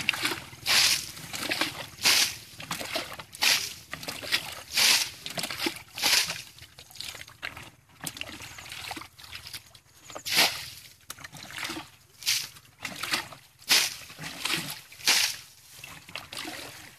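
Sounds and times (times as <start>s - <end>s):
bucket scooping water: 0.0s - 16.9s
water splashing: 0.0s - 16.9s.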